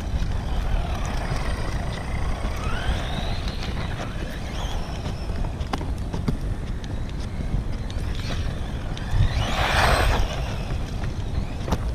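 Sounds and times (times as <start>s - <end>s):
electric toy car motor whining: 0.0s - 11.9s
wind and tyres on asphalt: 0.0s - 11.9s.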